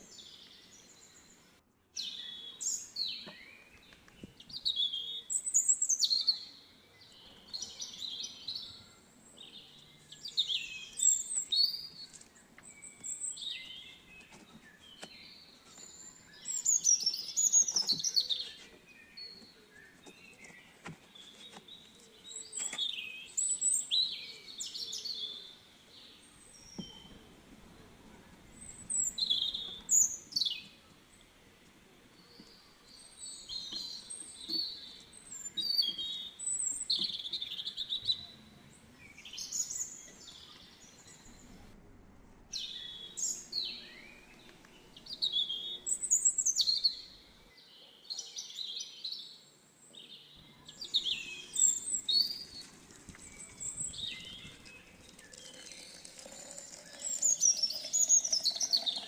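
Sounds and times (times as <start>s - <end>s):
songbirds singing and chirping: 0.0s - 59.0s.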